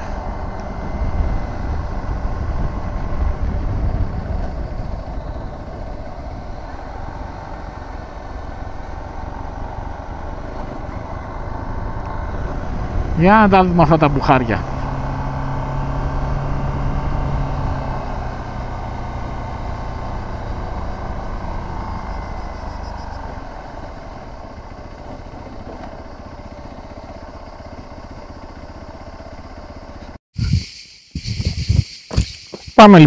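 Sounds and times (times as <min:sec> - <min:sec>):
motorcycle engine running: 0:00.0 - 0:30.2
road and wind noise: 0:00.0 - 0:33.0.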